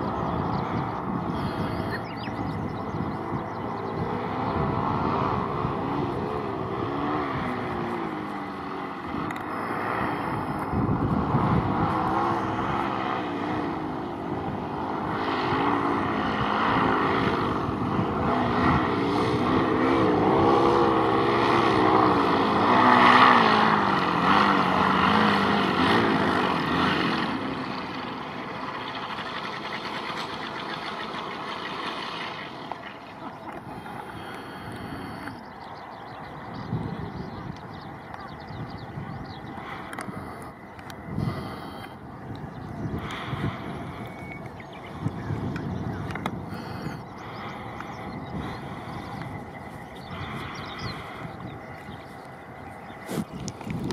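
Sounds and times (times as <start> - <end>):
wind noise: 0.0 - 28.0, 33.2 - 53.9
small engine droning: 0.0 - 53.9.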